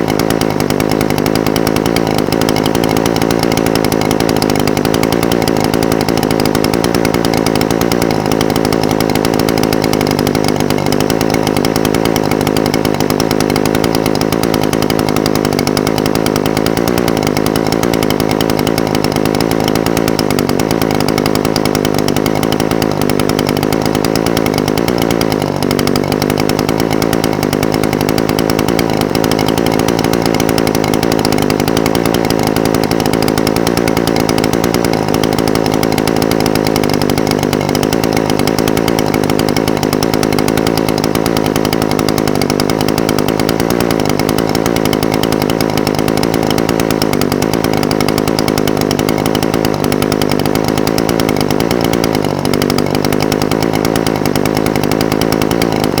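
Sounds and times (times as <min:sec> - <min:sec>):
brush cutter engine idling: 0:00.0 - 0:56.0.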